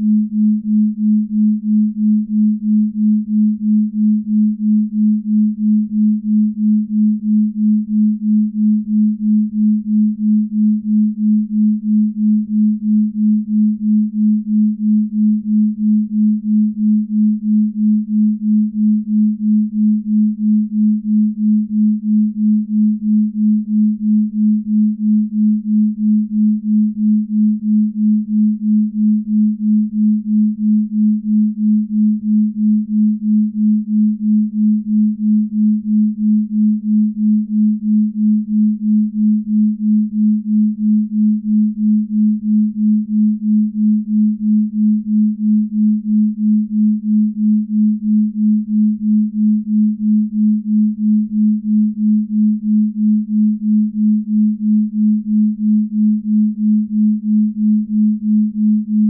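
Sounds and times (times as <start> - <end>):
binaural beat sine tone: 0.0 - 59.0.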